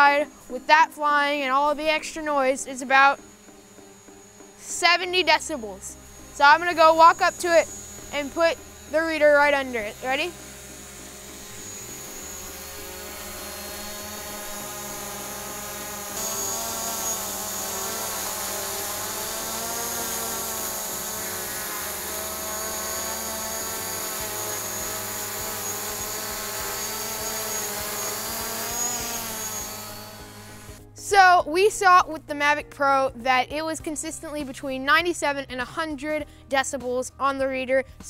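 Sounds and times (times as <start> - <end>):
drone propellers buzzing: 0.0 - 30.9.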